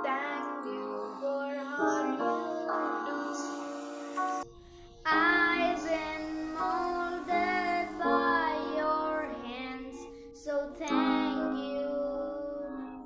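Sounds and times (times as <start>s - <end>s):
boy singing: 0.0s - 4.4s, 5.0s - 13.0s.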